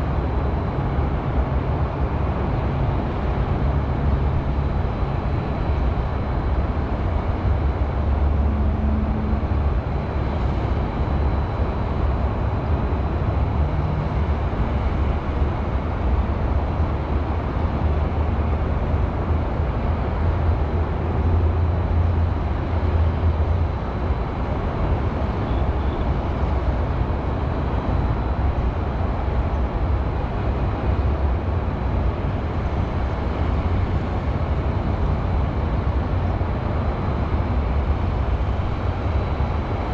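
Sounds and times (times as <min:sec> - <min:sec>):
distant highway traffic hum: 0:00.0 - 0:39.9.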